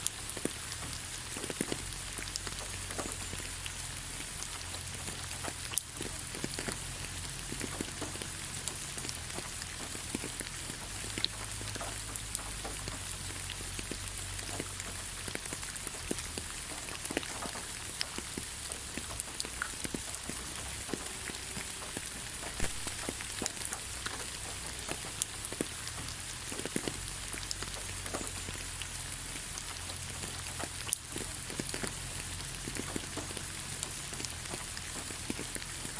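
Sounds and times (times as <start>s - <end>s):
light rain hiss: 0.0s - 35.9s
raindrops ticking: 0.0s - 35.9s.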